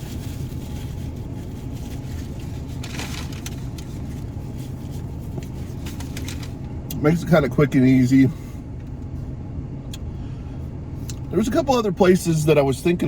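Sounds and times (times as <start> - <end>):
car idling rumble: 0.0 - 13.0.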